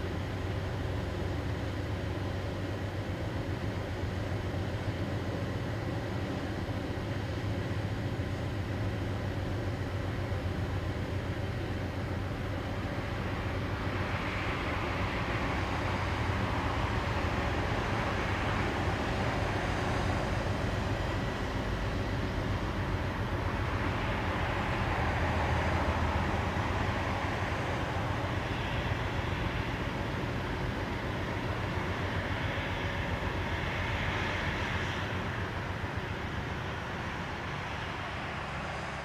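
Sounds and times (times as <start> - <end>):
vehicle noise rumble: 0.0 - 39.0.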